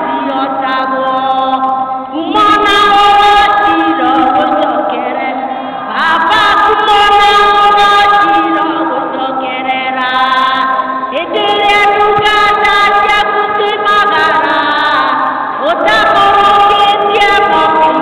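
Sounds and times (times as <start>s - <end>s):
women singing into microphones: 0.0s - 18.0s.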